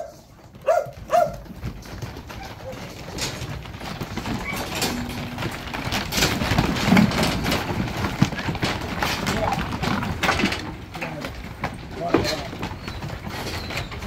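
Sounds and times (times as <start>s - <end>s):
sheep hooves on wooden floor: 0.0s - 14.0s.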